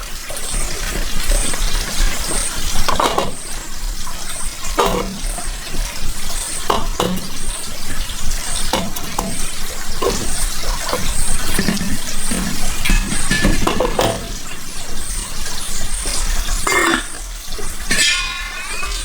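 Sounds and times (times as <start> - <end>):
running splashing water: 0.0 - 19.0
water sloshing: 0.0 - 19.0.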